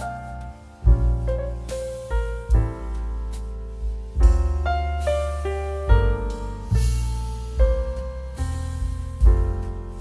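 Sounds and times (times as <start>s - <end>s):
piano background music: 0.0s - 10.0s.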